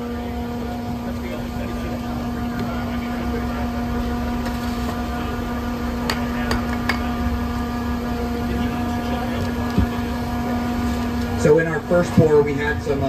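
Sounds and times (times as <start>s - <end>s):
concrete mixer truck humming: 0.0s - 13.0s.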